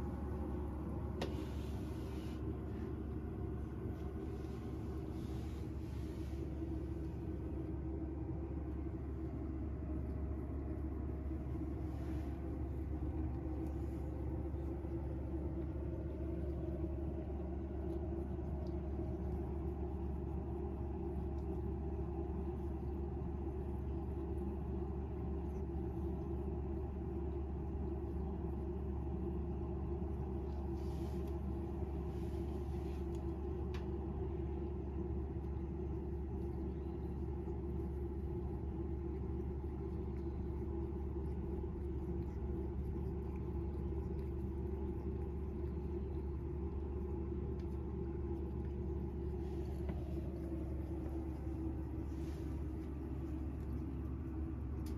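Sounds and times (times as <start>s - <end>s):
low background hum: 0.0s - 54.9s.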